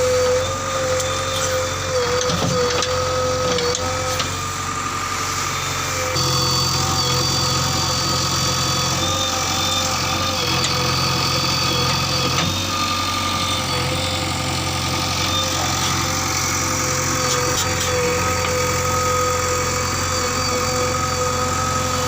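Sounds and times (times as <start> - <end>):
engine whine: 0.0 - 22.0
heavy diesel engine running: 0.0 - 22.0.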